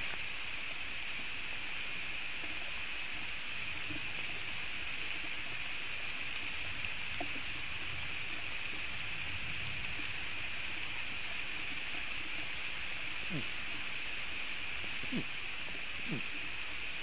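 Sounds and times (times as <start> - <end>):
rain falling on forest: 0.0 - 17.0.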